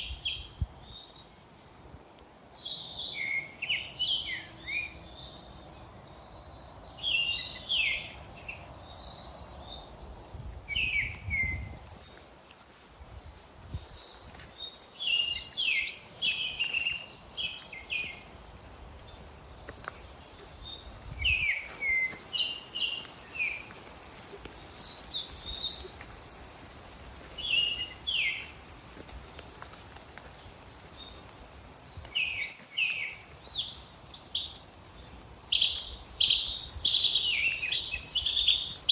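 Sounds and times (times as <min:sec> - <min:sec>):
woodland birds singing: 0:00.0 - 0:38.9.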